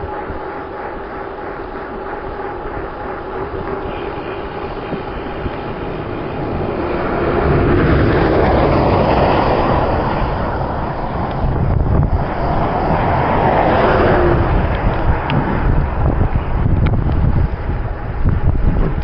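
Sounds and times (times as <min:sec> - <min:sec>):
road noise: 0:00.0 - 0:19.0
wind rushing: 0:00.0 - 0:19.0.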